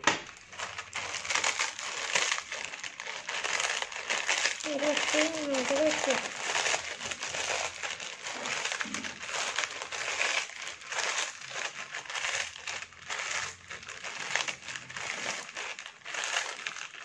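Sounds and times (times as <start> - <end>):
chips crunching in foil packet: 0.3 - 17.0.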